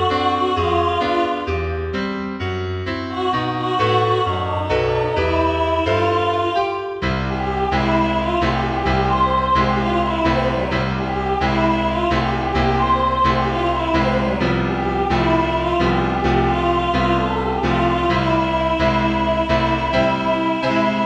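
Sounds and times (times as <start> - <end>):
synthesized choir voice: 0.0 - 2.0, 3.0 - 21.0
piano chords: 0.0 - 21.0.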